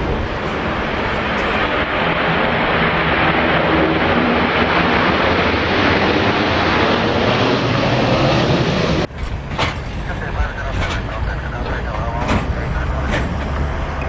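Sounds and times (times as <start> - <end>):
airliner engines roaring: 0.0 - 14.0.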